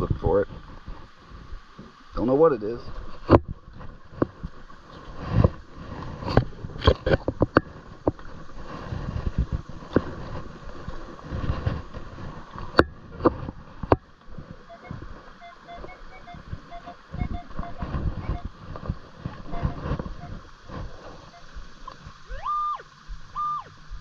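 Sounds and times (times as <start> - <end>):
creek rushing: 0.0 - 24.0.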